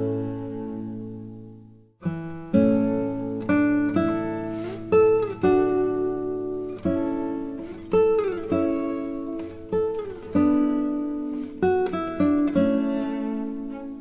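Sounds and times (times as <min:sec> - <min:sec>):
slow plucked guitar music: 0:00.0 - 0:14.0.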